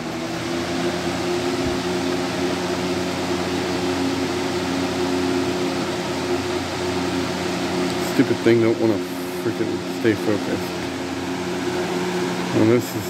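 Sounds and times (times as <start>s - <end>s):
box fan air rushing: 0.0s - 13.0s
fan motor hum: 0.0s - 13.0s.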